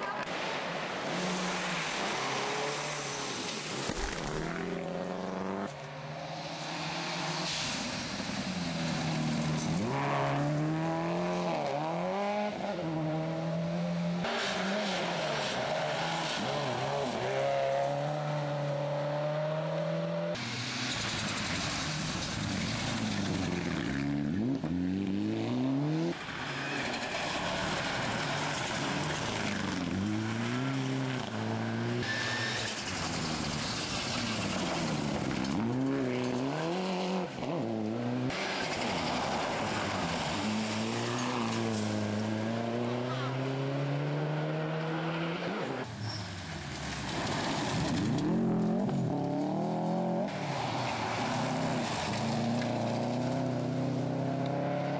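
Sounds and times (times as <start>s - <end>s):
rally car engines revving: 0.0s - 54.9s.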